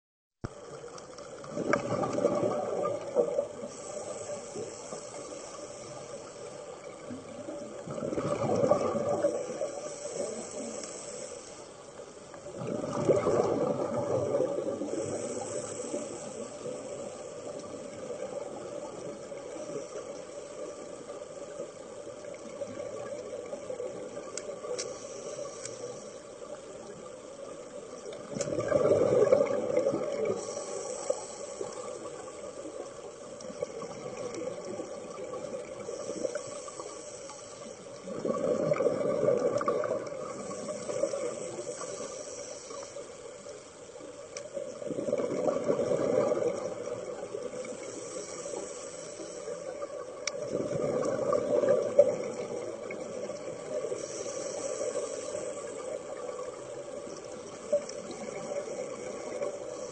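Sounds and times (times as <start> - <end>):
scuba regulator bubbling: 0.4 - 59.9
underwater hiss: 0.4 - 59.9.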